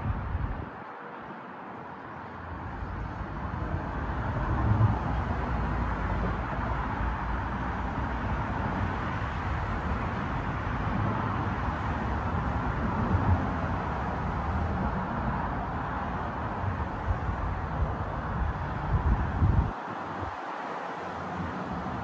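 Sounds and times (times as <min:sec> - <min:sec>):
outdoor rushing noise: 0:00.0 - 0:22.0.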